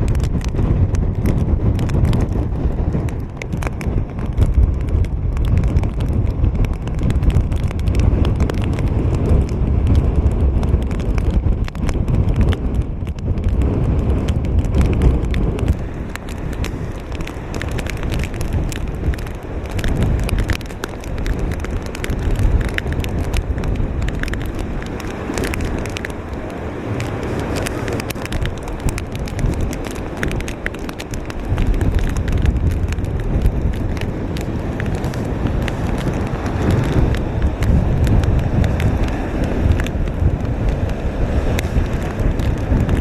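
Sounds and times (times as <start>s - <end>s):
hurricane wind on microphone: 0.0s - 43.0s
rain striking microphone: 0.0s - 43.0s.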